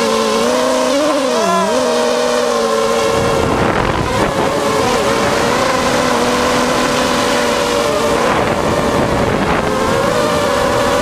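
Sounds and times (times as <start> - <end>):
motor running: 0.0 - 11.0.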